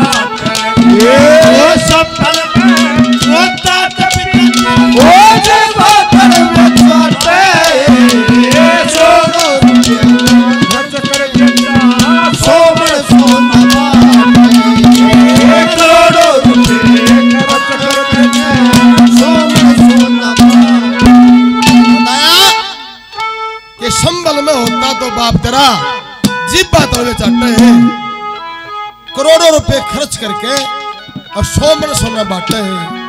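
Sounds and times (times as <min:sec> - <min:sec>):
fast hand drums: 0:00.0 - 0:22.6, 0:23.8 - 0:28.0, 0:29.3 - 0:33.0
rattling percussion: 0:00.0 - 0:23.2, 0:23.8 - 0:28.0
folk melody with sliding notes: 0:00.0 - 0:33.0.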